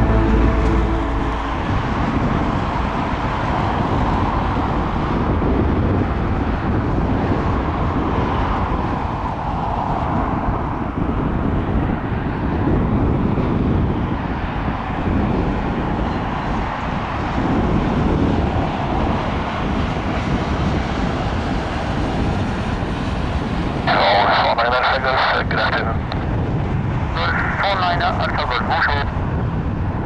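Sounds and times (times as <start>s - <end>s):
jet engine rushing with whine: 0.0s - 29.2s.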